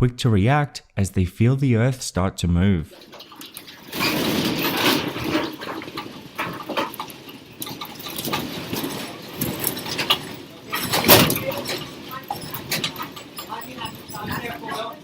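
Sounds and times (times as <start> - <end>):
room rattling and clattering: 2.9 - 15.0.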